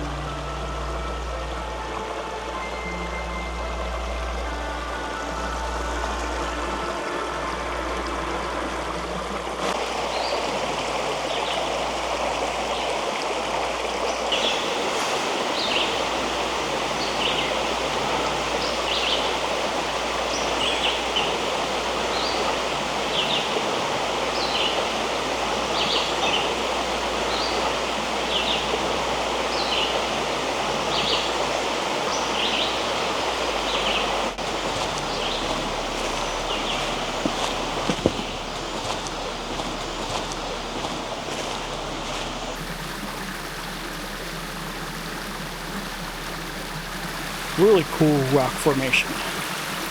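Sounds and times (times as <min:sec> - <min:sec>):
creek water rushing: 0:00.0 - 0:49.9.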